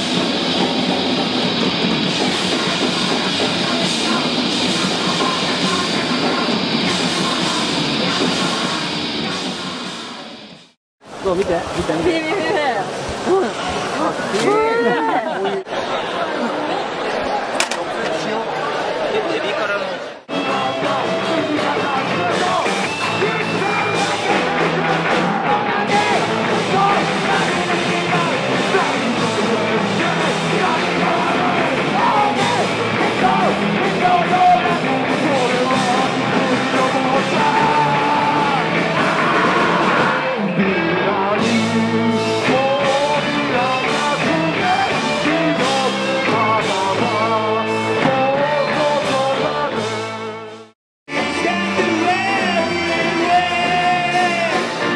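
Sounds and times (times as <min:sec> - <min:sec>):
punk band playing live: 0:00.0 - 0:10.8, 0:20.3 - 0:54.9.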